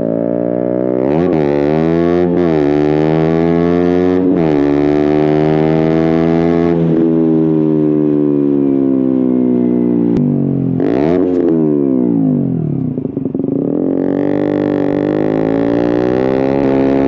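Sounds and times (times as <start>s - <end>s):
motorcycle engine revving with upshifts: 0.0s - 17.0s.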